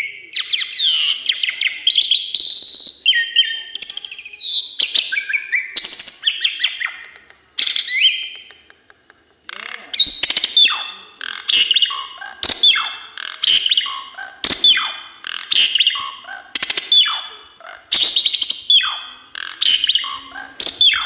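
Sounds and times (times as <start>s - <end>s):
starling singing: 0.0s - 8.6s, 9.5s - 21.0s.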